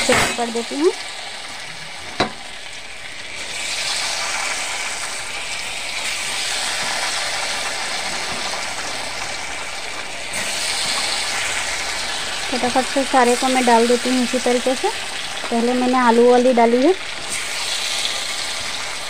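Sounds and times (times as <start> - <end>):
pakoras sizzling in hot oil: 0.0 - 19.0.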